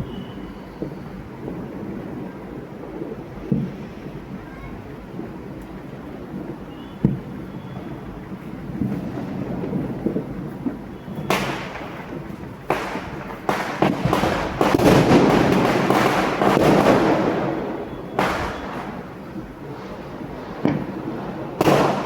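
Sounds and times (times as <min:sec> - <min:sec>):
fireworks and firecrackers banging: 0:00.0 - 0:22.0.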